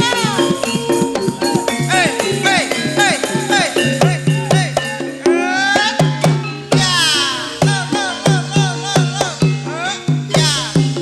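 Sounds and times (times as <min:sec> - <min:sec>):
gamelan music: 0:00.0 - 0:11.0
hand drum strokes bending in pitch: 0:00.0 - 0:11.0.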